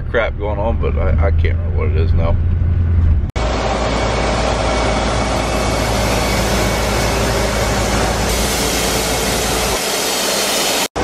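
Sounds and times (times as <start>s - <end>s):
diesel truck engine running: 0.0s - 9.8s.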